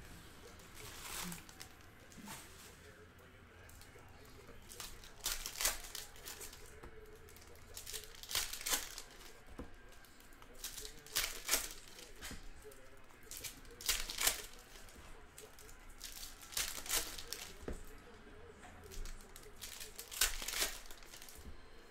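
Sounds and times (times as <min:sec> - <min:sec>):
wrappers tearing and crinkling: 0:00.5 - 0:02.3, 0:03.8 - 0:18.0, 0:18.8 - 0:21.4.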